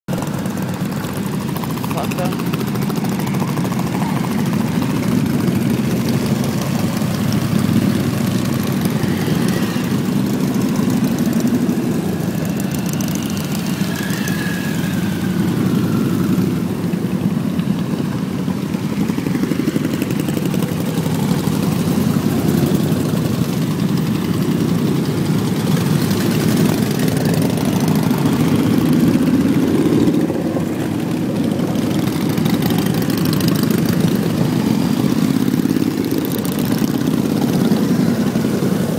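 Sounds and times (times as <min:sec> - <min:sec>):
engine running: 0:00.1 - 0:38.9.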